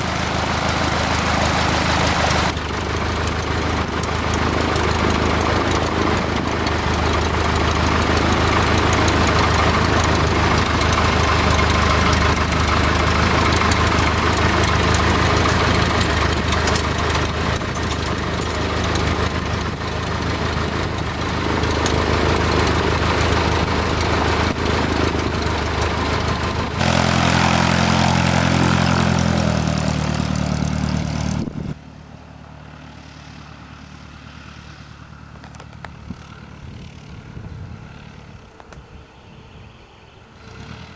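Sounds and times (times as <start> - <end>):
aircraft engine running: 0.0 - 40.9.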